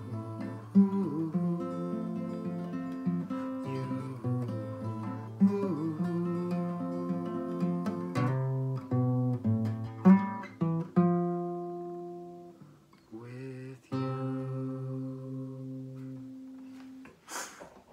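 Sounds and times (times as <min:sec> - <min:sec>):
acoustic guitar picking: 0:00.0 - 0:17.1.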